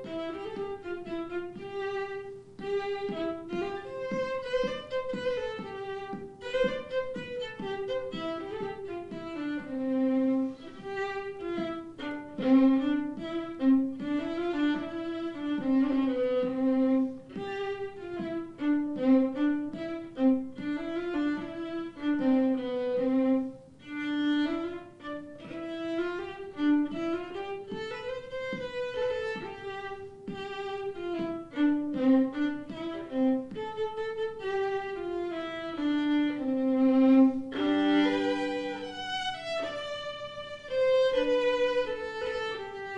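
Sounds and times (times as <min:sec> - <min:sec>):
violin melody: 0:00.0 - 0:42.9.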